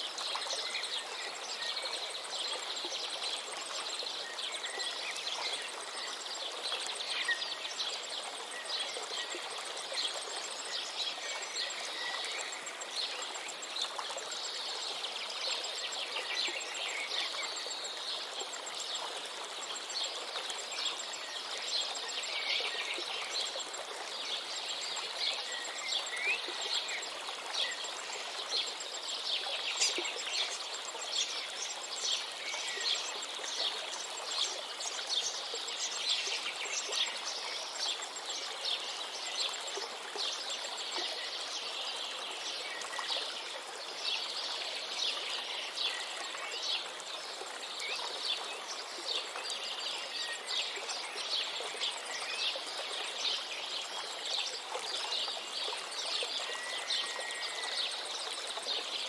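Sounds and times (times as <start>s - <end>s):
flowing stream: 0.0s - 59.0s.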